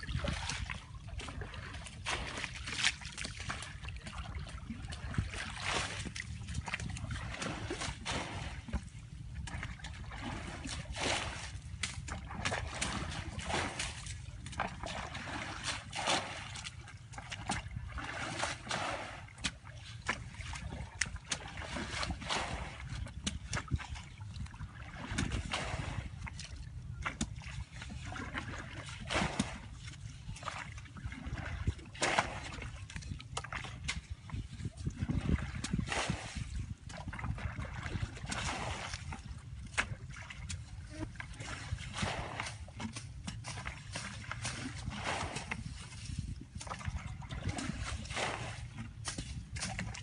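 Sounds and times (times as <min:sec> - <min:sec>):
steady low rumble: 0:00.0 - 0:50.0
water splashing and sloshing: 0:00.0 - 0:50.0.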